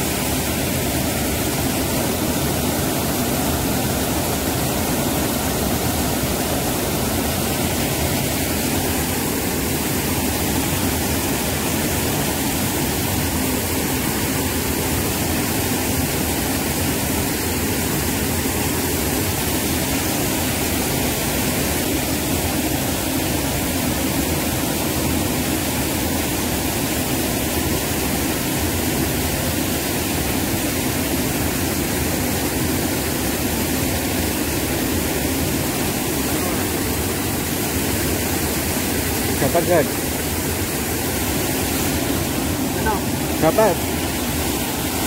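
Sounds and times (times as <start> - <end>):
river rushing over rapids: 0.0 - 45.0.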